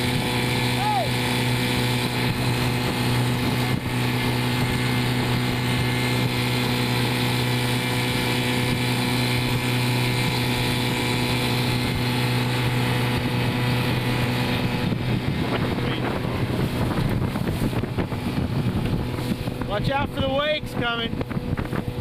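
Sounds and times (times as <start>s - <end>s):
motorboat engine running: 0.0s - 22.0s
water rushing past hull: 0.0s - 22.0s.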